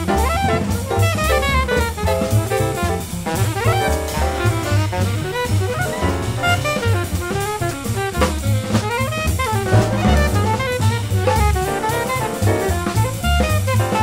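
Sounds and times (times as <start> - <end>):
alto saxophone solo: 0.0 - 14.0
double bass: 0.0 - 14.0
drum kit: 0.0 - 14.0.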